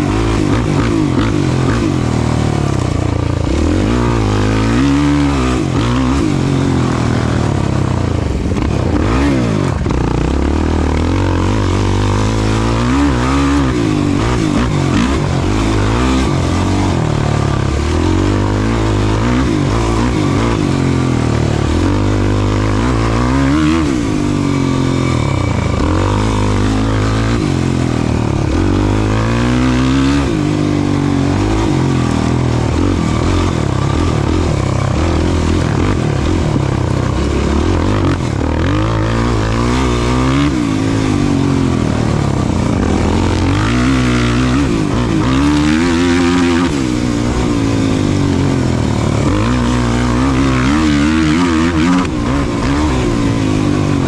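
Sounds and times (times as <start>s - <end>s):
racing engine revving: 0.0s - 54.0s.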